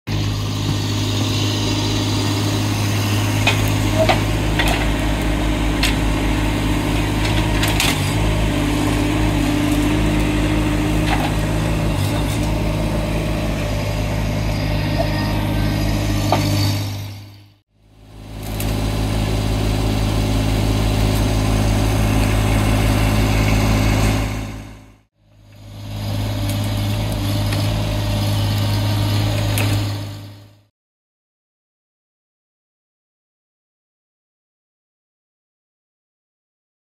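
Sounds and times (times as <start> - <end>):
loader engine running: 0.1 - 30.7.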